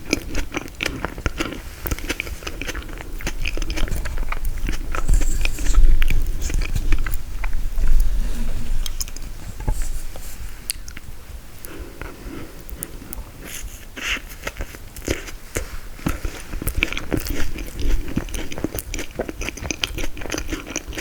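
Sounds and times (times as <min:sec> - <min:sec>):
close-miked eating and chewing: 0:00.0 - 0:21.0.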